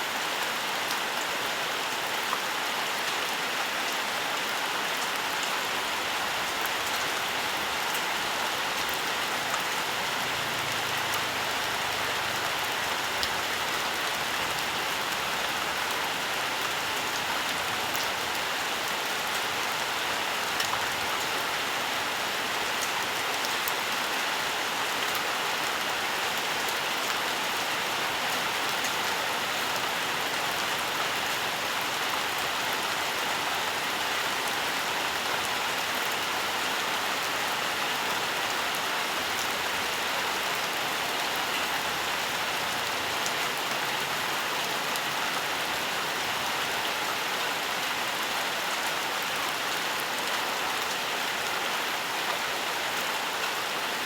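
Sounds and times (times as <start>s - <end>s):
rain falling in a forest: 0.0s - 54.0s.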